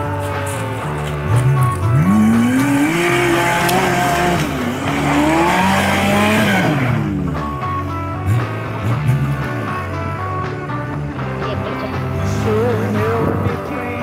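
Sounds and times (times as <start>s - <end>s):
off-road engine revving: 0.0s - 14.0s
rock music: 0.0s - 14.0s.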